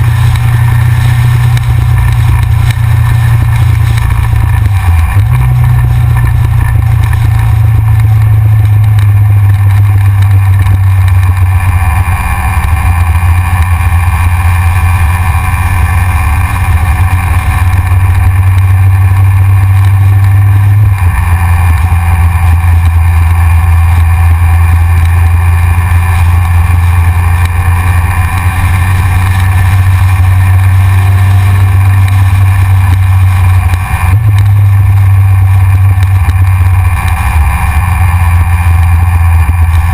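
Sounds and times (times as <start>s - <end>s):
motorcycle engine cruising: 0.0s - 39.9s
rushing wind noise: 0.0s - 39.9s.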